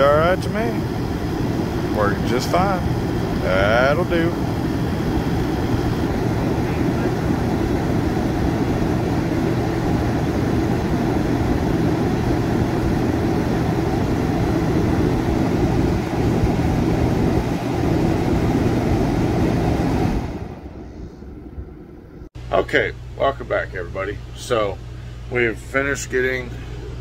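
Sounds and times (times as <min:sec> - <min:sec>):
air conditioner whirring: 0:00.0 - 0:27.0.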